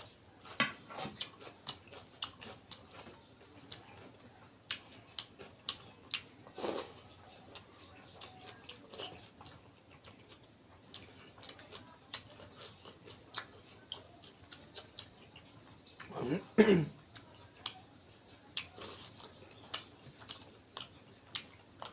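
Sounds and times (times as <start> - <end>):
person chewing food: 0.0 - 21.9.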